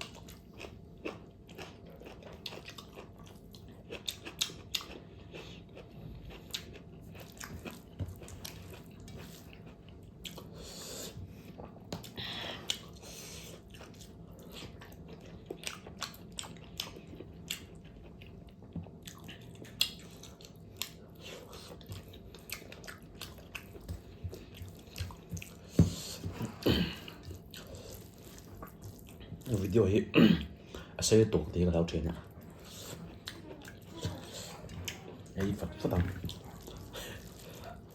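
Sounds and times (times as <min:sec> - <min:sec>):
person chewing with wet smacks: 0:00.0 - 0:37.9.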